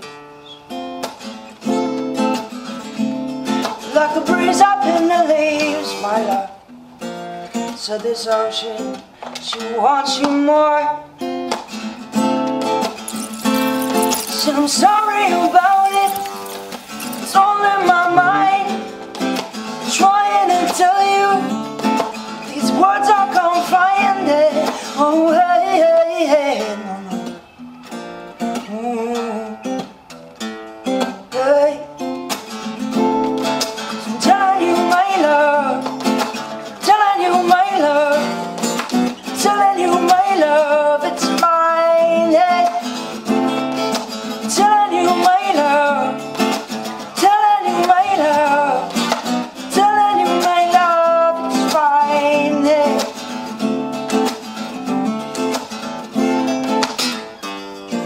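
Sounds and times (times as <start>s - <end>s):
strummed acoustic guitar: 0.0s - 58.0s.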